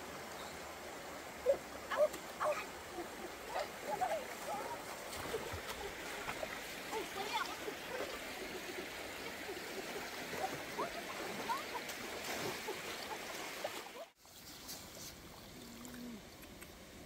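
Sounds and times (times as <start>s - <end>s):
water trickling and gurgling: 0.0s - 17.0s.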